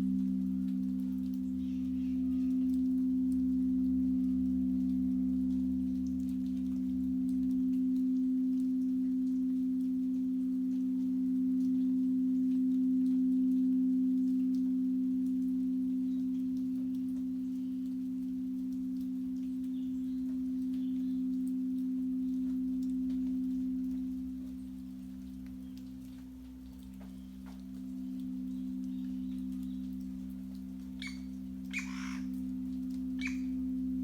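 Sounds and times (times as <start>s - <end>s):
singing bowl low hum: 0.0s - 34.0s.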